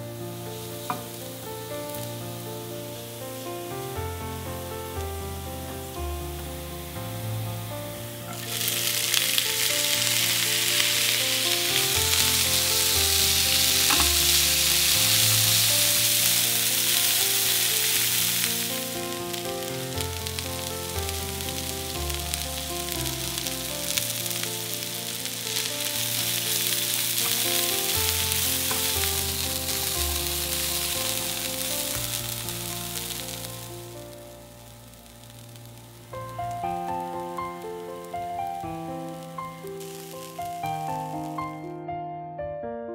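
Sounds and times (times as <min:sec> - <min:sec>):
soft background music: 0:00.0 - 0:42.4
food sizzling in frying pan: 0:00.4 - 0:41.6.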